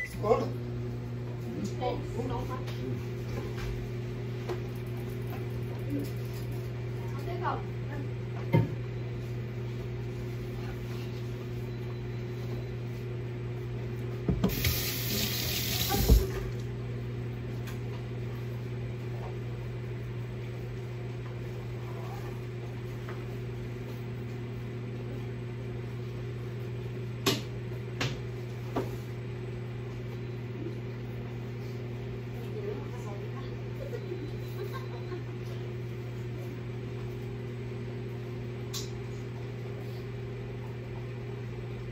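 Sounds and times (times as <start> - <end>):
low room hum: 0.0 - 41.9.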